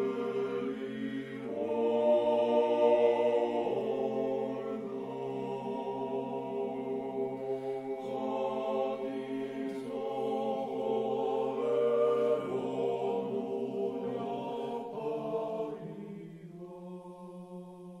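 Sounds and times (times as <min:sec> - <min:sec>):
slow sung chant: 0:00.0 - 0:18.0.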